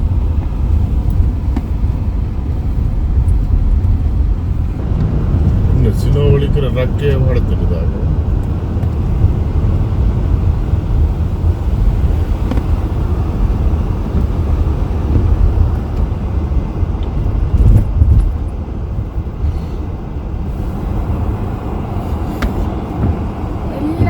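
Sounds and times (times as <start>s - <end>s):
car driving on snowy road: 0.0s - 24.0s.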